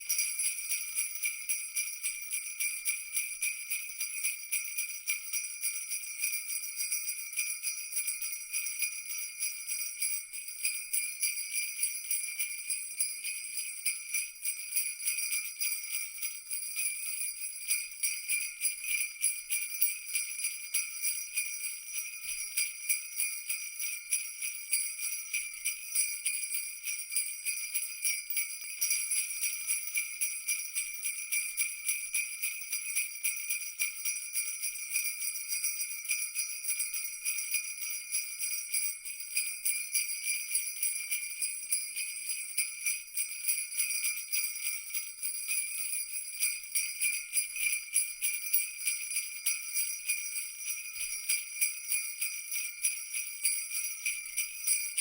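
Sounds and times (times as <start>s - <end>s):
jingle bells shaking: 0.0s - 55.0s.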